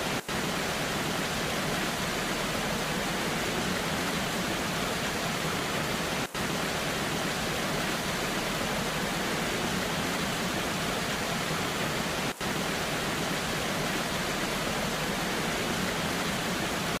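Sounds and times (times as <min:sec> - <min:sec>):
rain: 0:00.0 - 0:17.0
waterfall rushing: 0:00.0 - 0:17.0.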